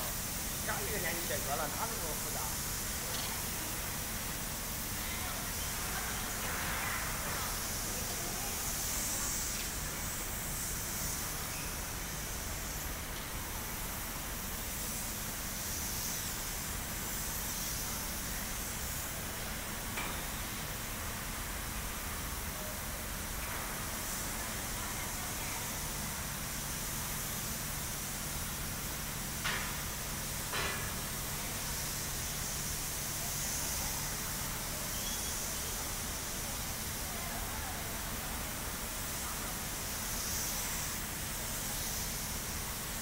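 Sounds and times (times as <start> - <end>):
spray gun hissing: 0.0 - 43.0.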